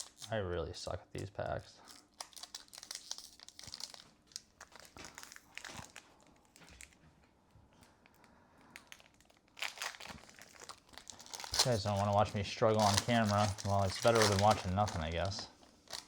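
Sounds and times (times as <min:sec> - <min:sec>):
card pack wrapper crinkling: 0:00.0 - 0:00.4, 0:01.8 - 0:07.0, 0:08.1 - 0:16.0.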